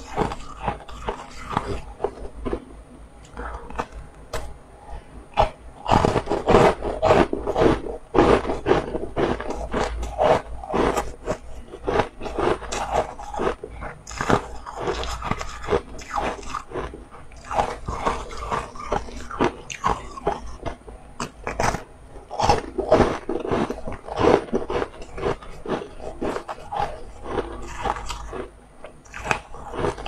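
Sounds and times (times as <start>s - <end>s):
crunching frozen ice snack: 0.0s - 2.6s, 5.4s - 30.0s.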